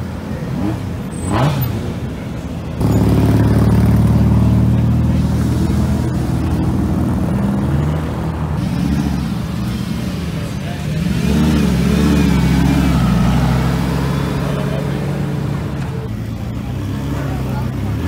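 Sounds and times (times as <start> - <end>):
car engine revving: 0.4 - 18.0.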